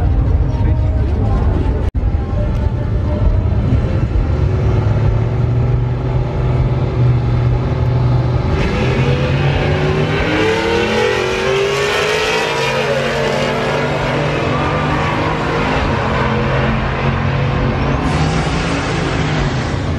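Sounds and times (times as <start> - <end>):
truck engines revving: 0.0 - 19.9.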